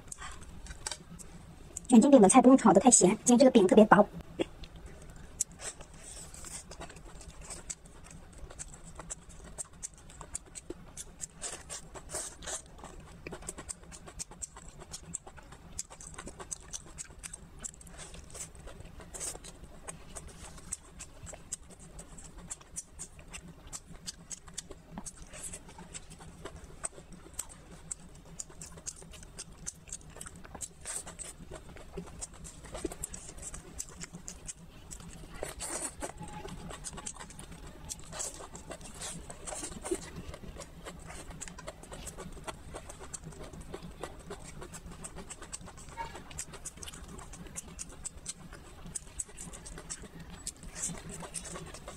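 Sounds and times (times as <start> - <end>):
close chewing and mouth clicks: 0.0 - 51.9
steady low hum: 0.0 - 51.9.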